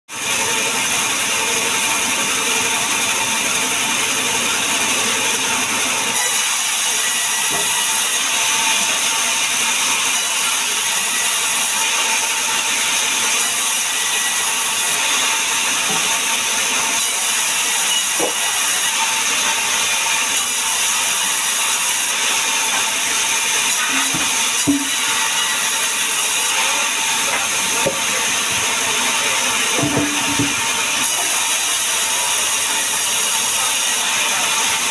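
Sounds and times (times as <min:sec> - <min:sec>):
band saw running: 0:00.1 - 0:34.9.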